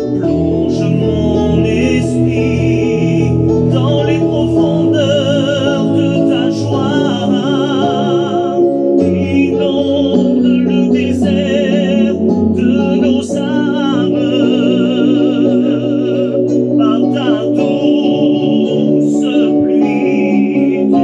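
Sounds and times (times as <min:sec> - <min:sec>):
instrumental accompaniment: 0:00.0 - 0:21.0
person singing a hymn: 0:00.0 - 0:21.0.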